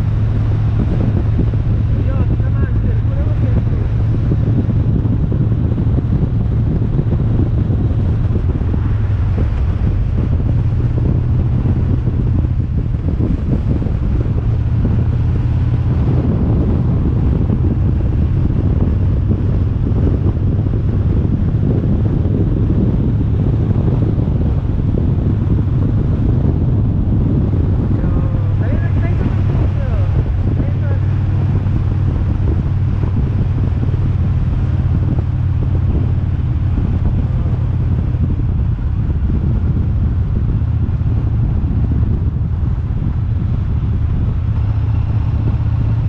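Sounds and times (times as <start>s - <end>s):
rushing wind and tyre noise: 0.0s - 46.0s
vehicle engine and road hum: 0.0s - 46.0s.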